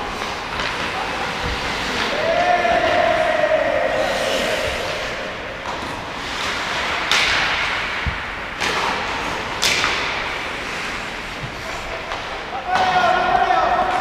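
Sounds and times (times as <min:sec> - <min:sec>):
hockey sticks cracking on pucks: 0:00.0 - 0:03.3, 0:04.4 - 0:14.0
skates scraping on ice: 0:00.0 - 0:14.0.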